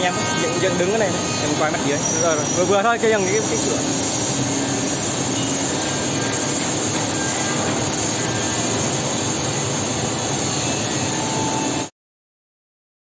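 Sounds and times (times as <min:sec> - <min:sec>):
woodworking machinery roar: 0:00.0 - 0:11.9.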